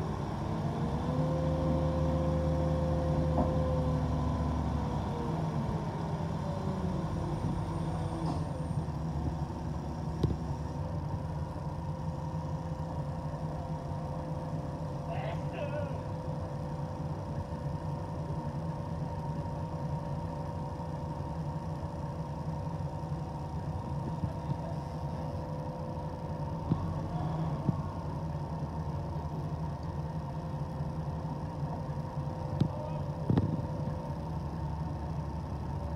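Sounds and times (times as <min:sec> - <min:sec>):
diesel crane engine running: 0:00.0 - 0:35.9.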